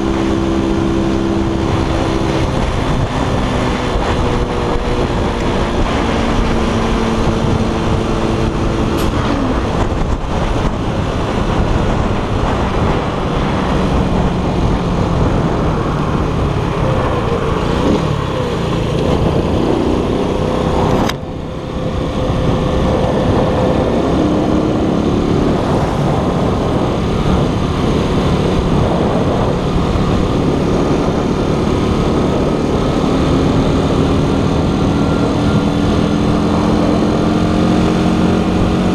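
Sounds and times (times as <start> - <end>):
scooter engine running: 0.0 - 38.9
wind noise: 0.0 - 38.9.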